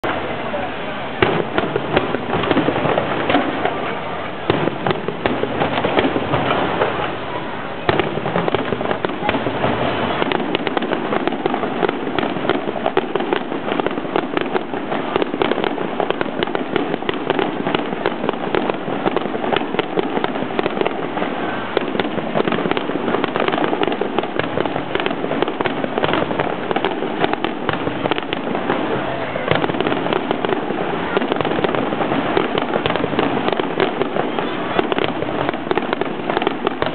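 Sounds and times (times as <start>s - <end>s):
fireworks bursting: 0.0s - 36.9s.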